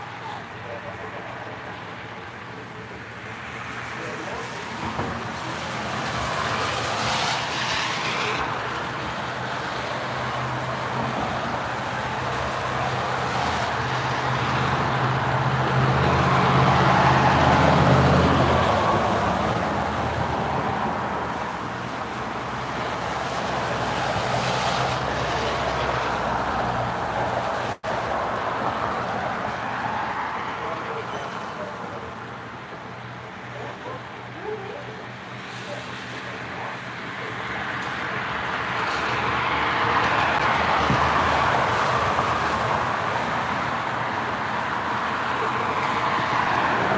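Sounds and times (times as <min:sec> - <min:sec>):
tyre and traffic noise: 0:00.0 - 0:46.9.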